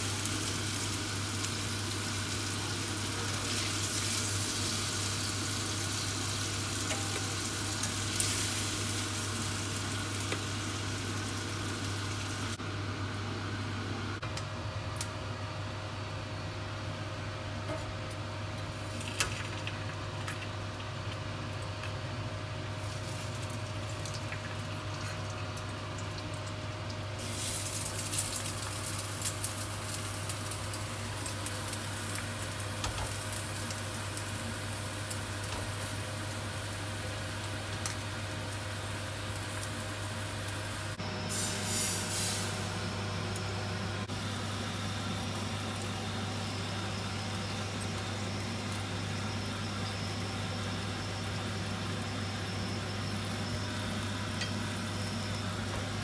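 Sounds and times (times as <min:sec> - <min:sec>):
oil sizzling in a frying pan: 0:00.0 - 0:12.6, 0:22.5 - 0:56.0.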